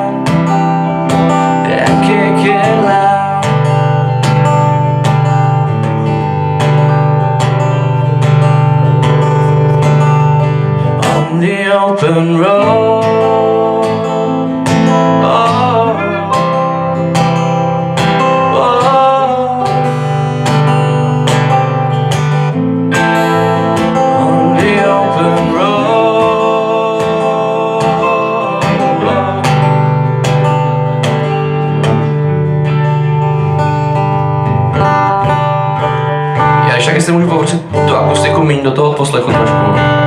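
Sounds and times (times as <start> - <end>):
strummed acoustic guitar: 0.0 - 40.0.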